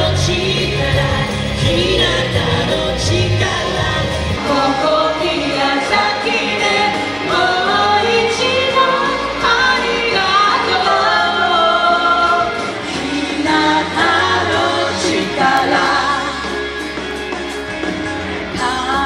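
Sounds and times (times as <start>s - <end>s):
backing vocal: 0.0s - 16.7s
electric bass: 0.0s - 19.0s
keyboard: 0.0s - 19.0s
woman singing lead: 0.0s - 19.0s.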